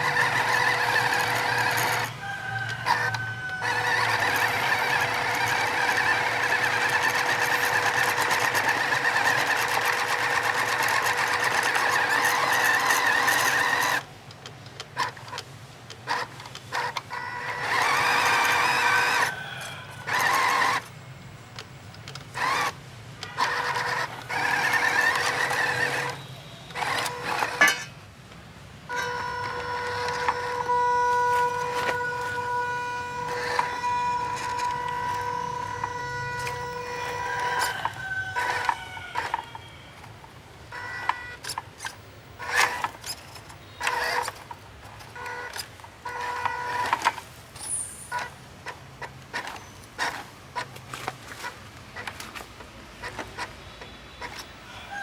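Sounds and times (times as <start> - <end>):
small electric motor whirring: 0.0 - 14.1, 16.0 - 21.0, 21.6 - 27.9, 28.9 - 52.4.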